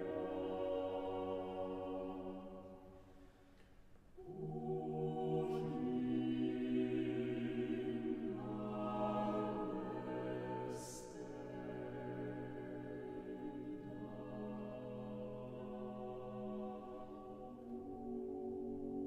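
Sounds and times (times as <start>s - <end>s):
a cappella vocal ensemble: 0.0s - 3.6s, 4.2s - 19.0s.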